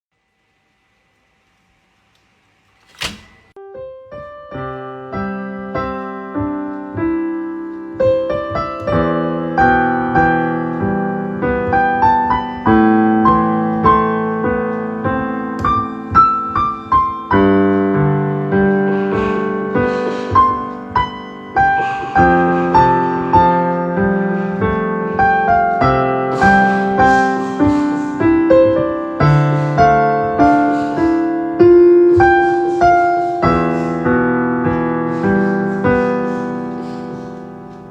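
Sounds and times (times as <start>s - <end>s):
solo piano music: 3.0s - 37.9s.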